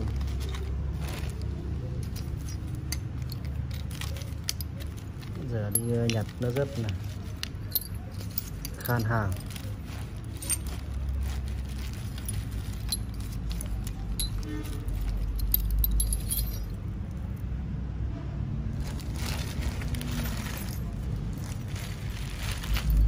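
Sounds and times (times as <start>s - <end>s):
plastic bag rustling: 0.0s - 16.8s, 18.8s - 23.0s
steel tools clinking: 0.0s - 17.0s, 18.8s - 23.0s.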